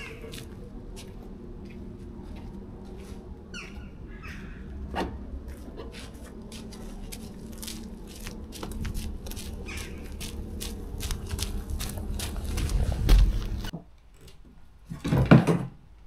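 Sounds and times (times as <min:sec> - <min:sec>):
steady low rumble: 0:00.0 - 0:13.7.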